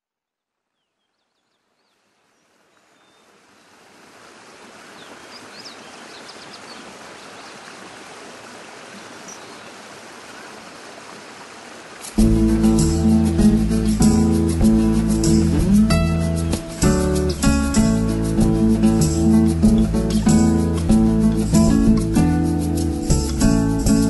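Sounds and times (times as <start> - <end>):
running water stream: 1.4 - 24.0.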